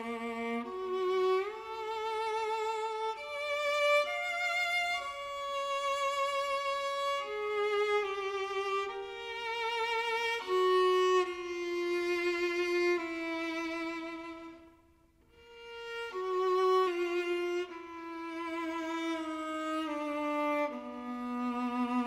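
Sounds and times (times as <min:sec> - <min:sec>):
viola melody: 0:00.0 - 0:22.0.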